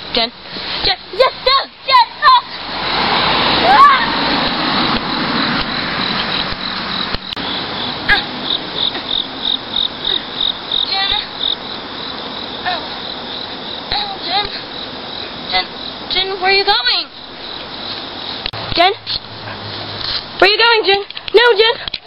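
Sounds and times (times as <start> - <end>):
cricket chirping: 0.0 - 22.0
steady hiss: 0.0 - 22.0.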